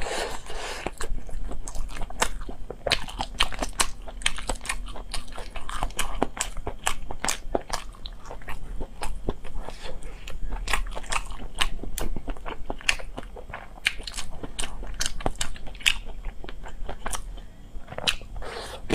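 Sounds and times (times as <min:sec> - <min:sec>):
crunching and chewing: 0:00.0 - 0:18.9.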